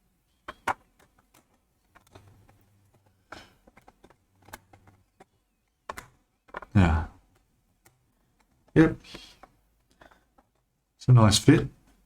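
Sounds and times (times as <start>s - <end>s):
plastic parts clicking together: 0.4s - 10.7s.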